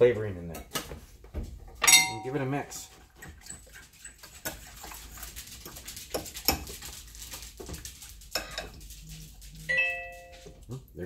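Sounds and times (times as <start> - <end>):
utensil stirring food in dish: 1.8 - 10.9.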